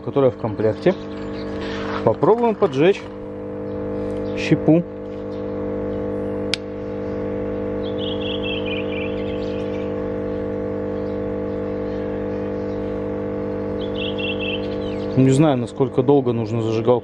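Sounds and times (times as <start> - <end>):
electric air pump humming: 0.0 - 17.0.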